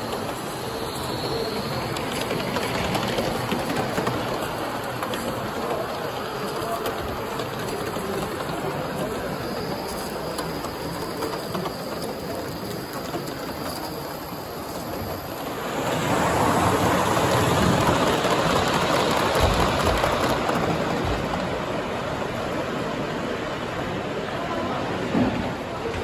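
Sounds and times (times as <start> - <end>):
model locomotive rail noise: 0.0 - 26.0.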